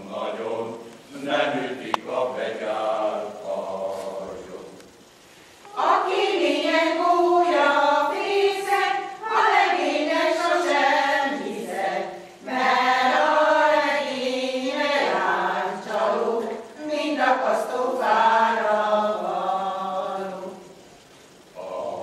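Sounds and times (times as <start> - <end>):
mixed choir singing folk song: 0.0 - 4.8, 5.7 - 20.8, 21.6 - 22.0.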